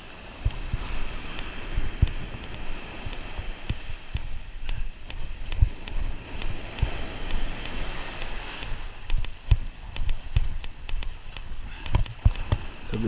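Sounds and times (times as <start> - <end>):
surf breaking on sand: 0.0 - 13.0
wind buffeting microphone: 0.0 - 13.0
light sharp clicks: 0.4 - 13.0.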